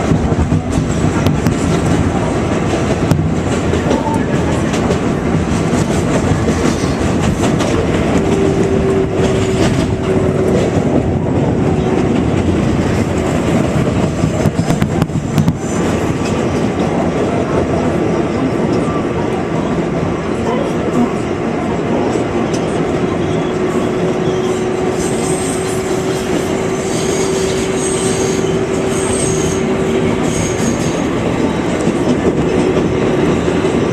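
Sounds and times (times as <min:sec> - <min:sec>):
train wheels and motors rumbling: 0:00.0 - 0:33.9.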